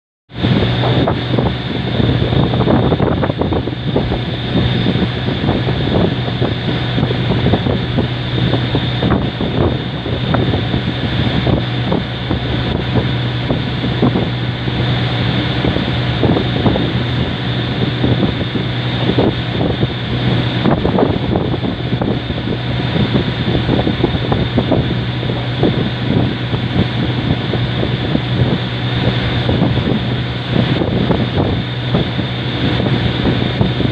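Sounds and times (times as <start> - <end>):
boat engine running: 0.3 - 33.9
wind buffeting microphone: 0.3 - 33.9.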